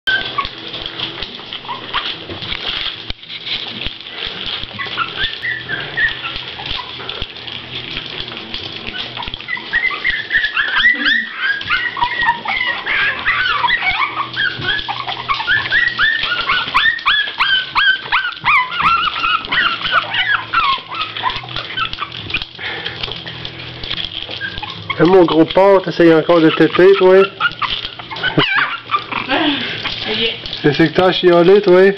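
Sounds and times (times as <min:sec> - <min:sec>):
puppies whining and squeaking: 0:00.0 - 0:31.9.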